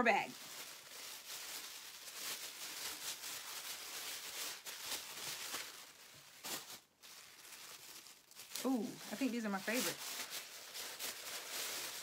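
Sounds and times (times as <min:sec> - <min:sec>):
plastic crinkling and rustling: 0:00.0 - 0:12.0.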